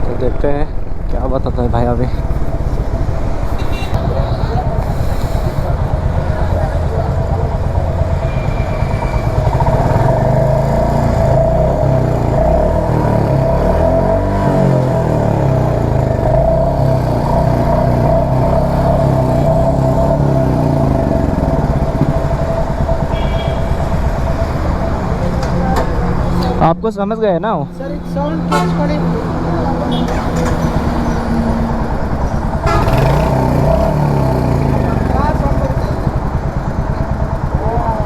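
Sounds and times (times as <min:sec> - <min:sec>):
motorcycle engine running: 0:00.0 - 0:26.8, 0:27.6 - 0:38.0.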